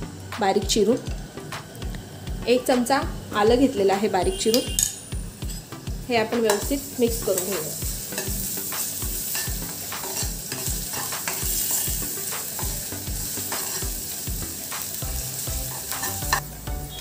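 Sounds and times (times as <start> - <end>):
garlic sizzling in hot oil: 0.1 - 17.0.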